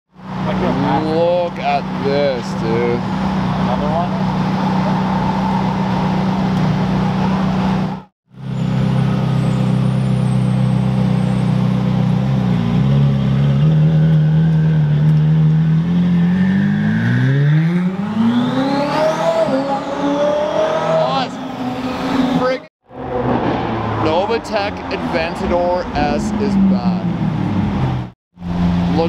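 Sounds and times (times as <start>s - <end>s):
car engine idling and revving: 0.1s - 29.0s.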